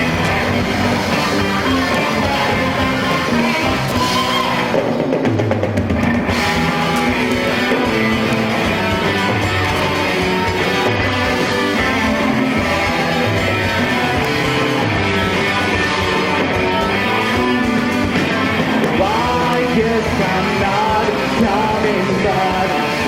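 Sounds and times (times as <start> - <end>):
distorted electric guitars: 0.0 - 23.0
drum kit: 0.0 - 23.0.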